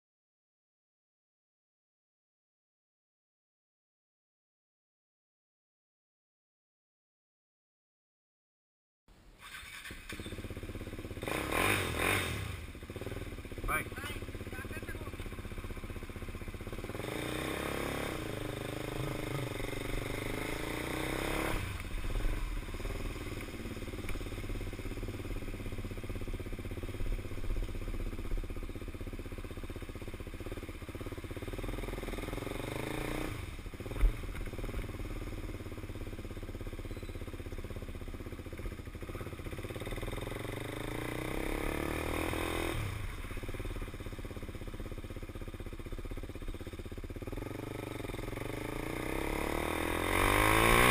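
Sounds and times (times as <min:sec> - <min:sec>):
motorcycle engine accelerating: 0:09.4 - 0:50.9.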